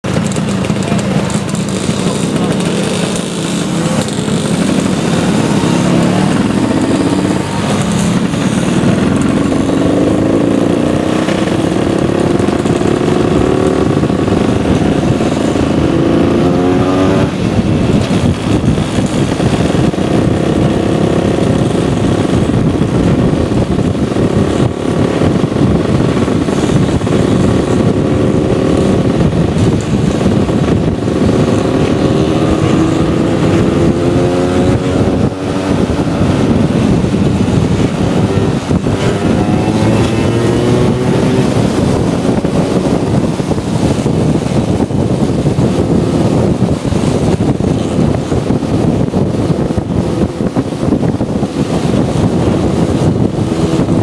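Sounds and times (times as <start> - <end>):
scooter engine running: 0.0 - 54.0
wind rushing over microphone: 0.0 - 54.0.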